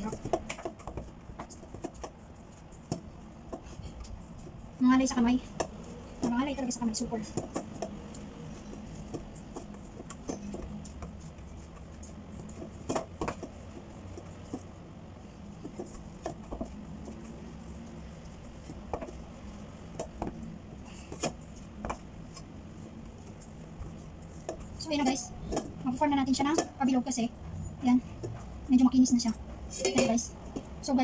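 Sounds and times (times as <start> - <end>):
hands kneading dough: 0.0 - 31.0
low steady hum: 0.0 - 31.0.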